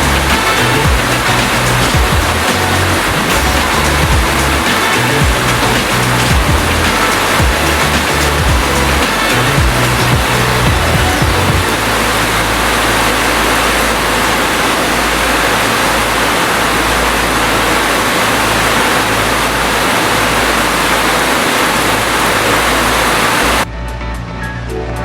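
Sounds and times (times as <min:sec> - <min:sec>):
low rumble: 0:00.0 - 0:21.2
steady rain hiss: 0:00.0 - 0:23.7.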